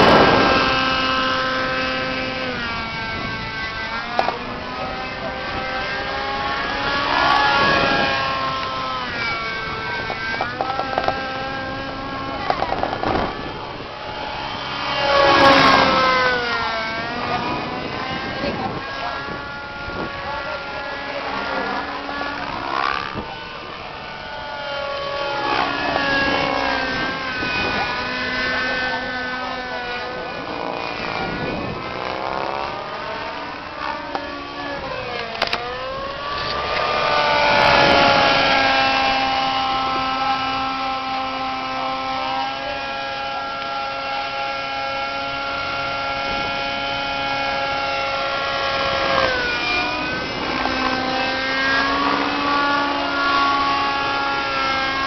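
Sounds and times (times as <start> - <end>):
model helicopter whining: 0.0 - 55.0
rotor blade rush: 0.0 - 55.0.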